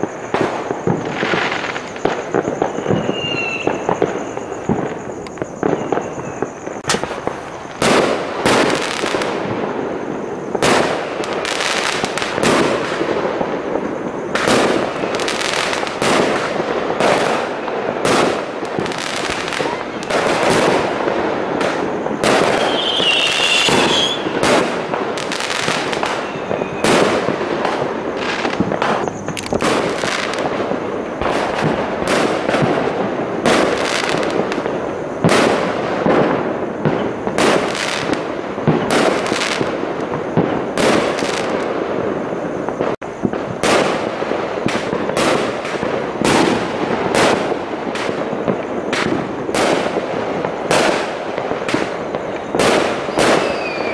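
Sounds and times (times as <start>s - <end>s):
firework whistle: 0.0s - 53.9s
fireworks bangs and crackles: 0.0s - 53.9s.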